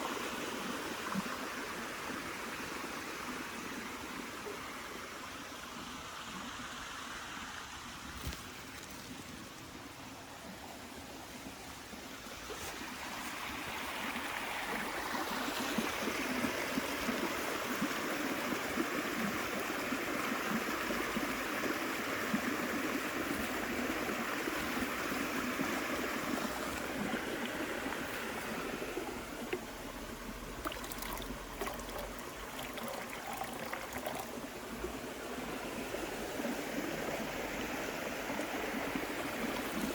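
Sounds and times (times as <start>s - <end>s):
running water rushing: 3.2s - 39.9s.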